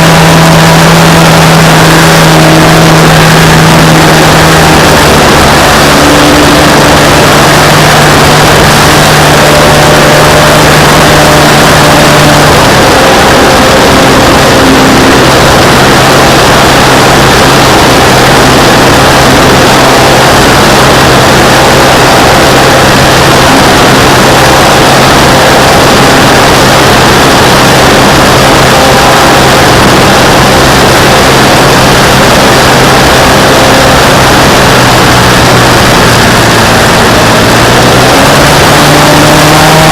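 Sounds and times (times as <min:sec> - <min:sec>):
heavy wind rush: 0:00.0 - 0:39.9
model airplane motor and propeller: 0:00.0 - 0:39.9.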